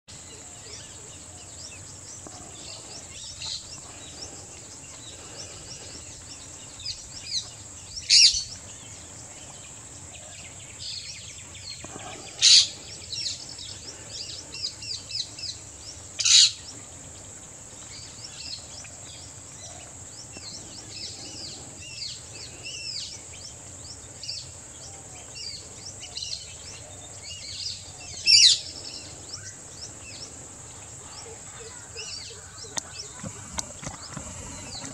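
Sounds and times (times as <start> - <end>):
wild birds chirping: 0.1 - 34.9
high insect drone: 0.2 - 34.9
loud sharp bird calls: 0.2 - 34.9.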